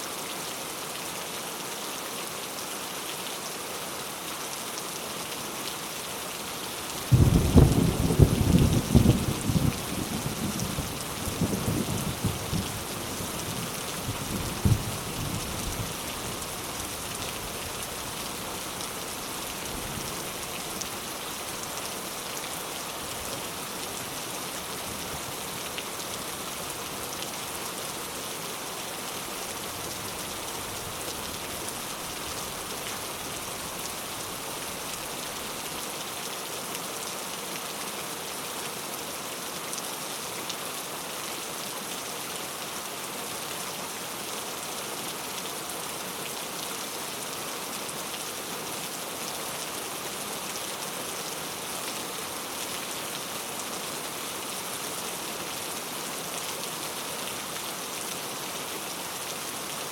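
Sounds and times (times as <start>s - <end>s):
heavy rain falling: 0.1s - 59.9s.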